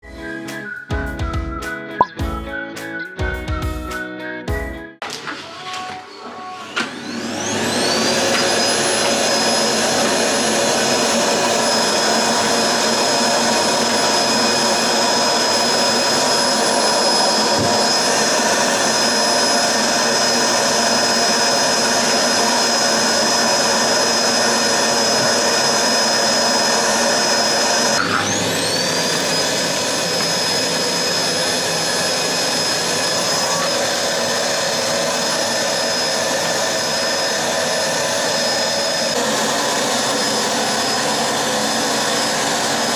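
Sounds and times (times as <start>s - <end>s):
vacuum cleaner running: 5.0s - 42.9s.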